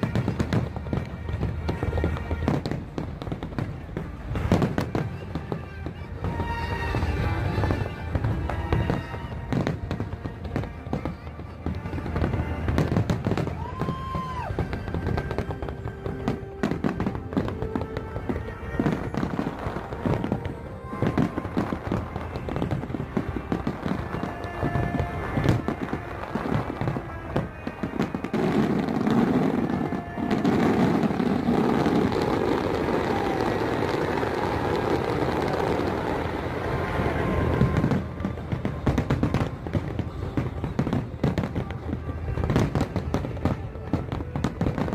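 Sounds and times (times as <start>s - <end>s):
firework whistle: 0.0s - 44.9s
fireworks bangs and crackles: 0.0s - 44.9s
music playing: 0.0s - 44.9s.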